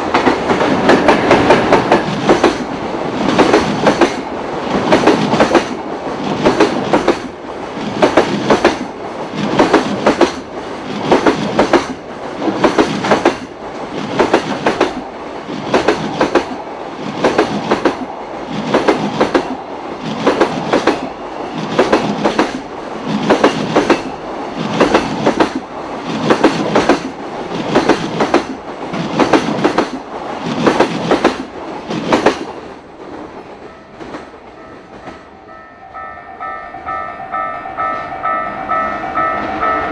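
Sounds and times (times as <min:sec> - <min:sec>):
train wheels clacking over rail joints: 0:00.0 - 0:35.3.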